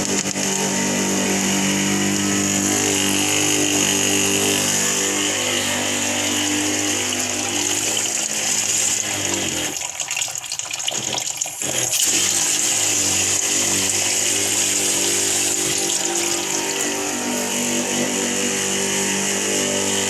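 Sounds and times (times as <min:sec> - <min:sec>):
water rushing through pipes: 0:00.0 - 0:20.0.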